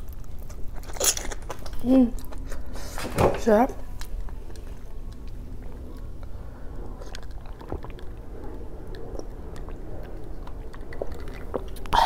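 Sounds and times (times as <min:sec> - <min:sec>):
close chewing mouth sounds: 0:00.0 - 0:03.0, 0:03.8 - 0:12.0.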